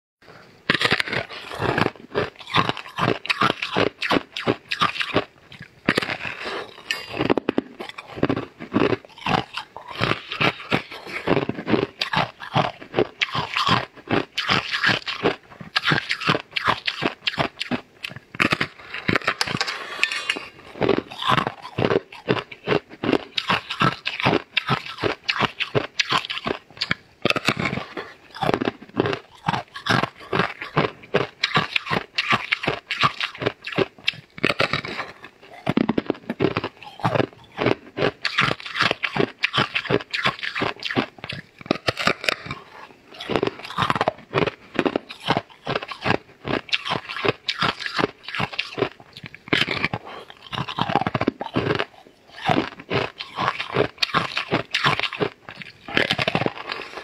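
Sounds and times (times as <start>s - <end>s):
crunching and chewing cookie: 0.2s - 57.0s.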